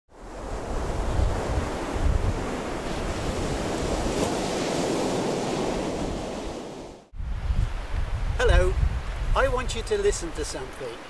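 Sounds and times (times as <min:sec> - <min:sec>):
wind gusting across microphone: 0:00.1 - 0:10.8
sea surf washing: 0:00.1 - 0:11.0.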